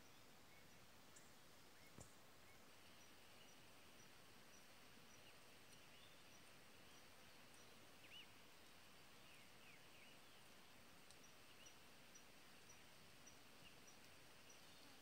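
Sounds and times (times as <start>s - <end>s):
faint bird chirps: 0.0s - 15.0s
faint outdoor hiss: 0.0s - 15.0s.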